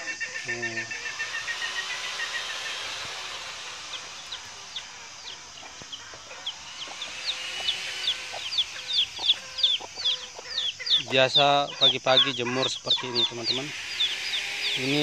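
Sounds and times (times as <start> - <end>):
chick peeping: 0.0 - 15.0
hen clucking: 0.0 - 15.0.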